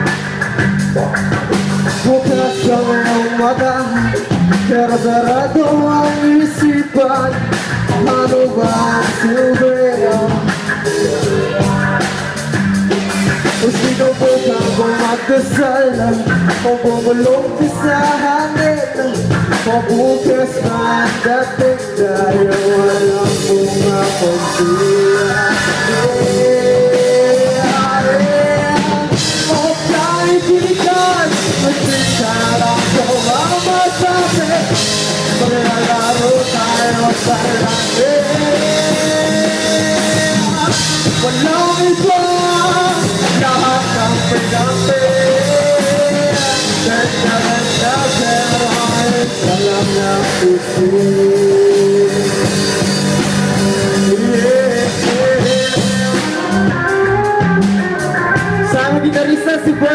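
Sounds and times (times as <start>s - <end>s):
drum kit: 0.0s - 59.9s
electric guitars: 0.0s - 59.9s
man singing: 1.4s - 59.9s.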